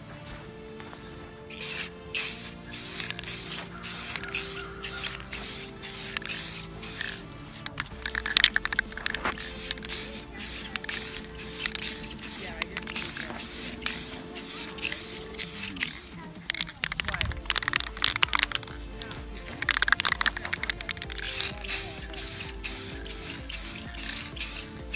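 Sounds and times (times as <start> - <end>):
aerosol spray can hissing: 1.5 - 24.9.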